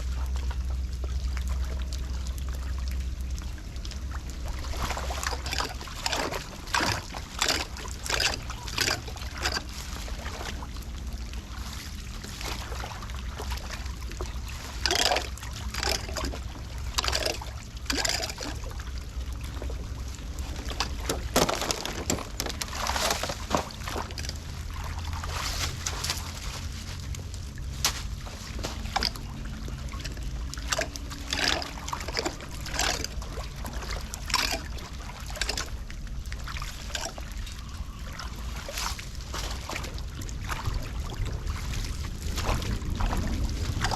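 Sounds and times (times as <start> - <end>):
floodwater sloshing around drain: 0.0 - 43.9
sharp splashes and scrapes: 0.0 - 43.9
steady low rumble: 0.0 - 43.9.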